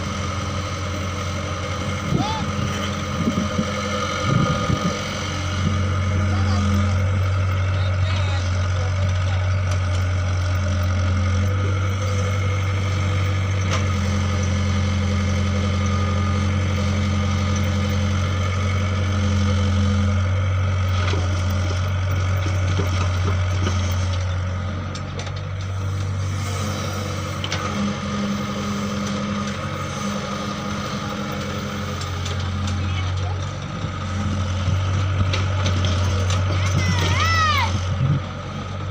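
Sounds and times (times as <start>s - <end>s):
large engine humming: 0.0s - 38.9s.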